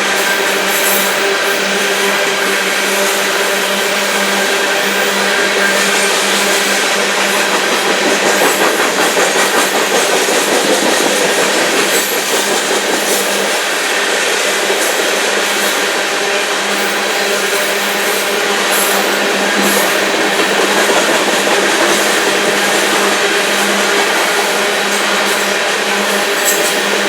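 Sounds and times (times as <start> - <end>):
train cars clattering on rails: 0.0 - 27.0.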